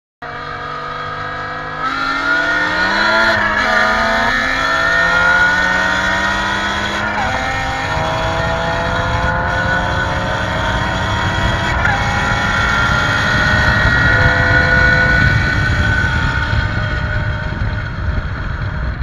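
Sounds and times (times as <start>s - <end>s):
car engines accelerating hard: 0.2s - 19.0s.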